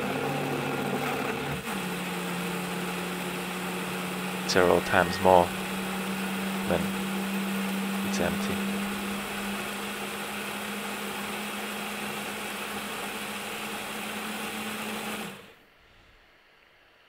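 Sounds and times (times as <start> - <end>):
smoothie maker motor churning: 0.0 - 15.7.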